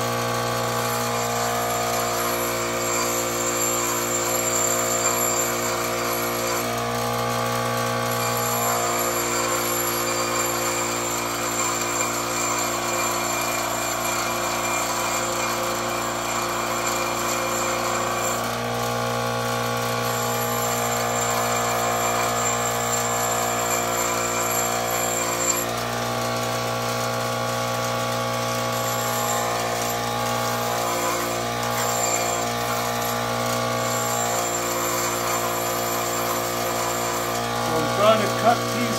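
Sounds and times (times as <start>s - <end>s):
bench grinder grinding metal: 0.0s - 38.9s.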